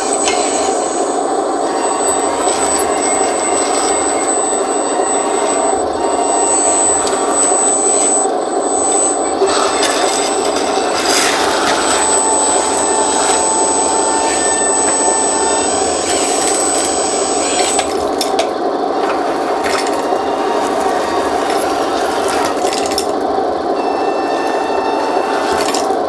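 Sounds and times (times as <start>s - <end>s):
hydraulic pump whining: 0.0s - 26.0s
thin high whine: 0.0s - 26.0s.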